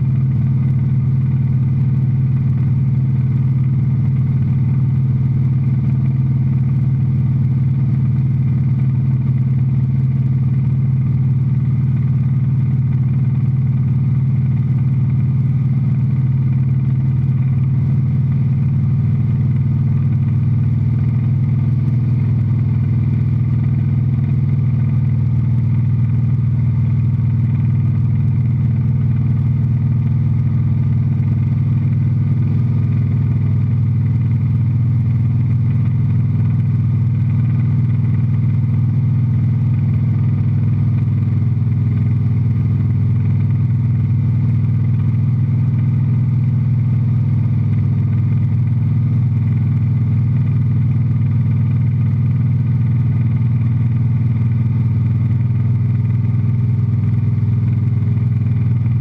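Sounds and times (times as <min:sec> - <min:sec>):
light aircraft engine and propeller: 0:00.0 - 0:48.7.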